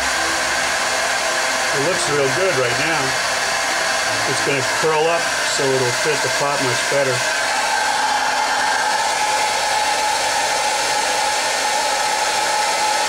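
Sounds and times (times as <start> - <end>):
hot-air blower whining: 0.0 - 13.0.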